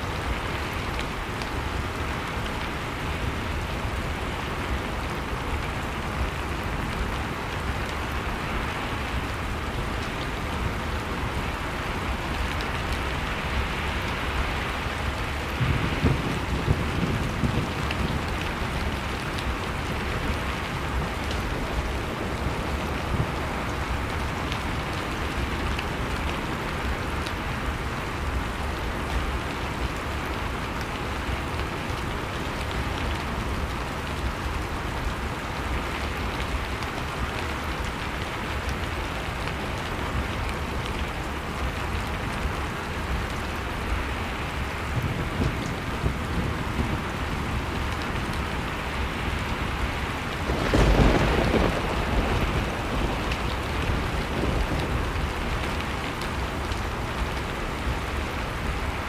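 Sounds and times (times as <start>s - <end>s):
blizzard wind rumbling: 0.0s - 59.0s
wood fire crackling: 4.1s - 59.0s.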